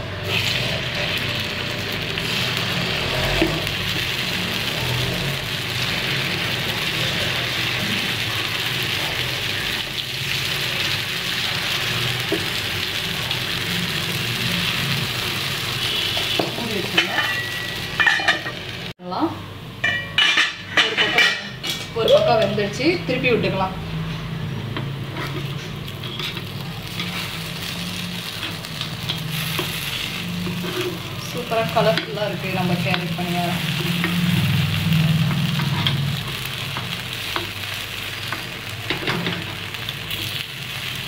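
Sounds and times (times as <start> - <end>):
batter sizzling in hot oil: 0.0 - 19.0, 24.8 - 41.0.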